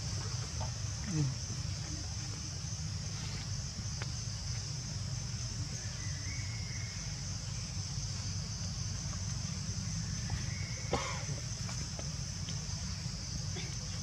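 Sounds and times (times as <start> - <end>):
insect chorus droning: 0.0 - 14.0.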